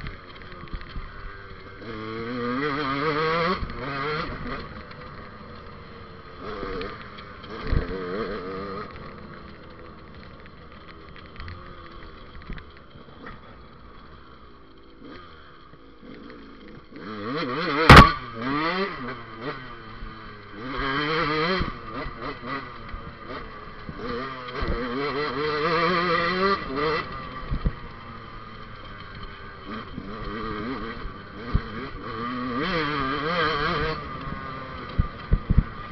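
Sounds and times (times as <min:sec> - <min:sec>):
dirt bike engine revving: 0:00.0 - 0:12.3, 0:12.9 - 0:35.9.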